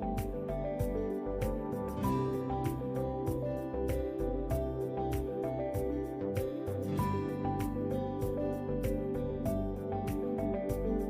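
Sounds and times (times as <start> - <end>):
mellow instrumental music: 0.0 - 11.0.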